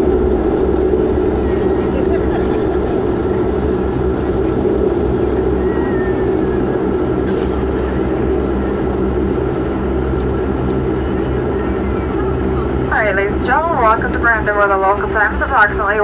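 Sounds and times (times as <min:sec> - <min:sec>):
turboprop propeller and engine drone: 0:00.0 - 0:16.0.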